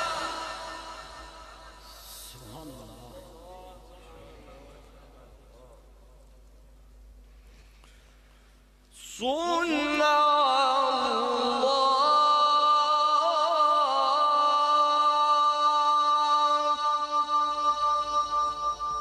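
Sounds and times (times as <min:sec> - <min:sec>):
man chanting through a loudspeaker: 0:00.0 - 0:06.2, 0:09.0 - 0:19.0.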